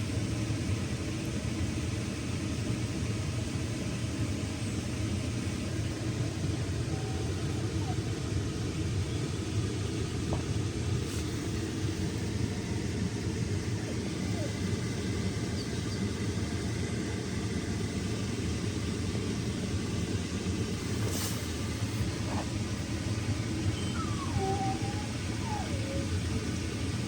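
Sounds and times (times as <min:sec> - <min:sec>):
steady low rumble: 0:04.4 - 0:27.0.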